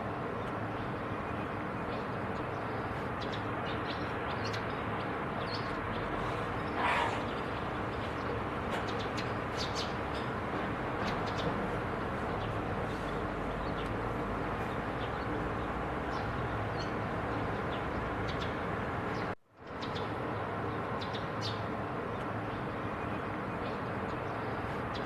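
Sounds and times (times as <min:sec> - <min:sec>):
steady low background noise: 0:00.0 - 0:25.0.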